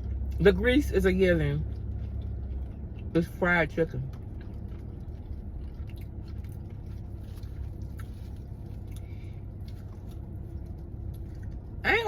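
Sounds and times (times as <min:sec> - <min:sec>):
chewing and biting fried chicken: 0:00.0 - 0:12.0
steady low rumble: 0:00.0 - 0:12.0.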